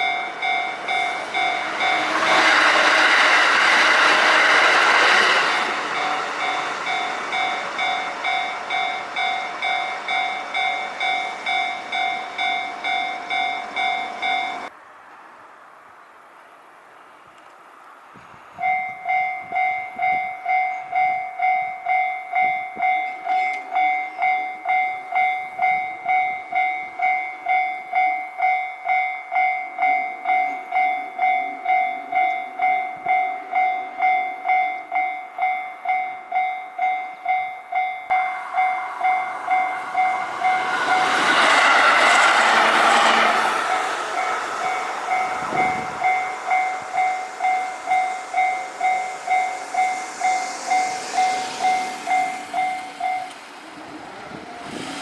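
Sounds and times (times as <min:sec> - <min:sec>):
crossing warning bell dinging: 0:00.0 - 0:14.8, 0:18.6 - 0:54.8
train rushing past: 0:00.0 - 0:55.0.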